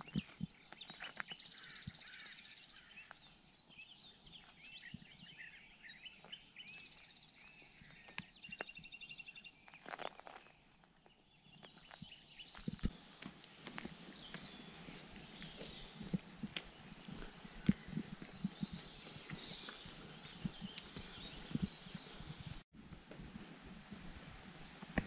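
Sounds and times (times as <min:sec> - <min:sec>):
songbirds singing: 0:00.0 - 0:22.6
footsteps crunching on gravel: 0:00.0 - 0:25.0.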